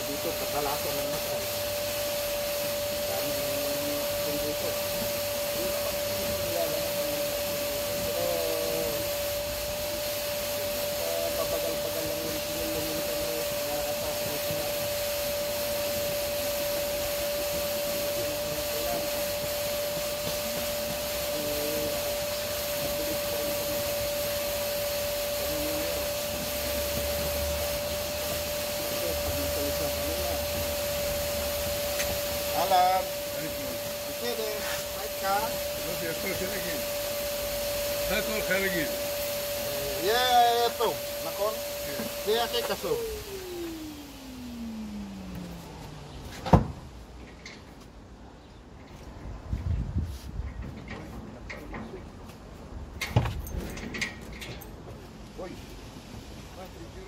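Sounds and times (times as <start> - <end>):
vacuum cleaner running: 0.0 - 48.1, 53.0 - 57.0.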